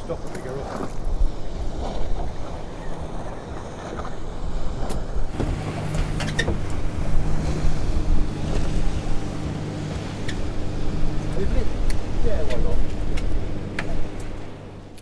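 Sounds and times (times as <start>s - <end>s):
outboard motor idling: 0.0s - 15.0s
wind buffeting microphone: 0.0s - 15.0s.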